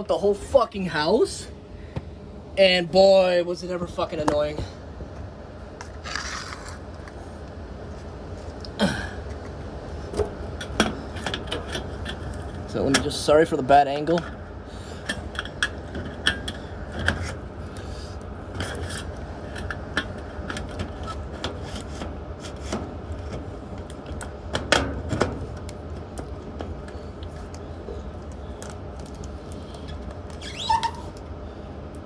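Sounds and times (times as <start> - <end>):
blower fan running: 0.0 - 32.0.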